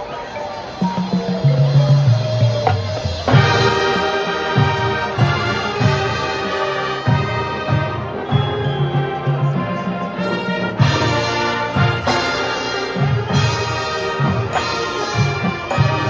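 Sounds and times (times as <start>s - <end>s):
drums: 0.0s - 16.0s
marching band brass: 0.0s - 16.0s.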